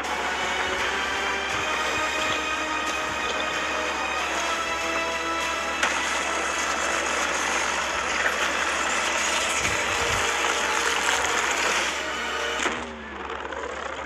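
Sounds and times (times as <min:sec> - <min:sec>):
loud rushing noise: 0:00.0 - 0:13.1.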